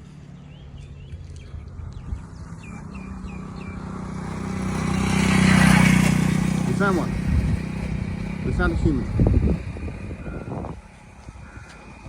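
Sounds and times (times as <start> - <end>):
small birds chirping: 0.0 - 12.0
vehicle engine approaching: 0.0 - 12.0.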